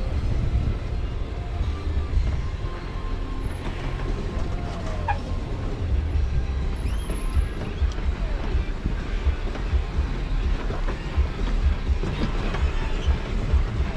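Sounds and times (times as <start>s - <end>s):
engine and tyres rumbling: 0.0s - 13.9s.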